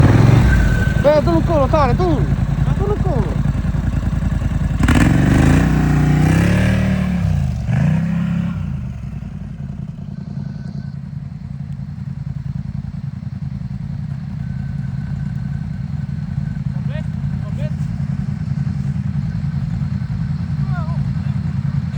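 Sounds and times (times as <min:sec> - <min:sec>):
atv engine revving: 0:00.0 - 0:21.9.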